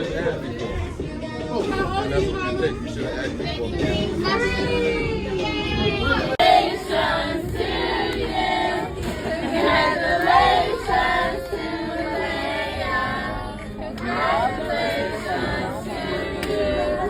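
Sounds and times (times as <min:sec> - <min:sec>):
group of people singing: 0:00.0 - 0:17.0.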